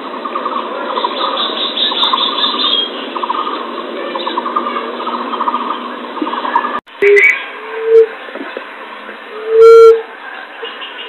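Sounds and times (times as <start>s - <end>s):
recorded bird trilling calls: 0.2s - 8.6s, 9.3s - 11.0s.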